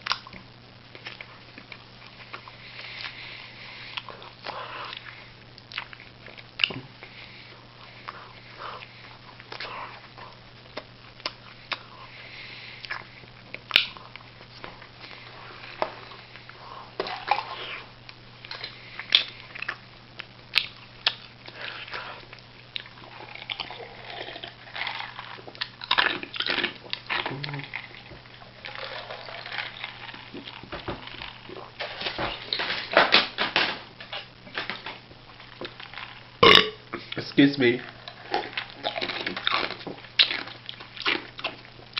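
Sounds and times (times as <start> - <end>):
person chewing: 0.0 - 33.0, 34.1 - 37.2, 37.8 - 41.9.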